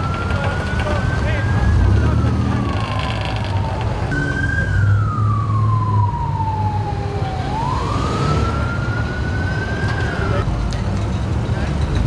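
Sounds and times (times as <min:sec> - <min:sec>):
emergency vehicle siren wailing: 0:00.0 - 0:10.5.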